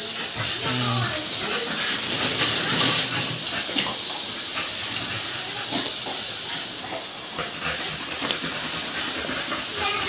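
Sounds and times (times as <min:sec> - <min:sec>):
water spray hissing: 0:00.0 - 0:10.0.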